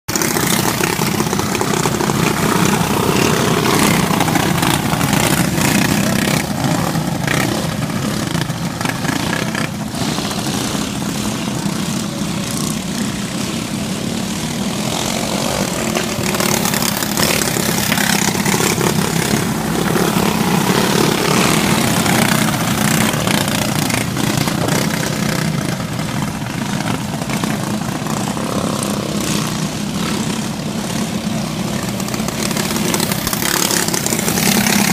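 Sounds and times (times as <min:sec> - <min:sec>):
kart engine running hard: 0:00.1 - 0:34.9.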